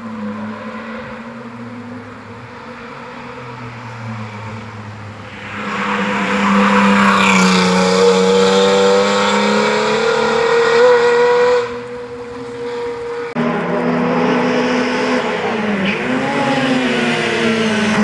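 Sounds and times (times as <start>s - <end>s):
race car passing at speed: 0.0s - 18.0s.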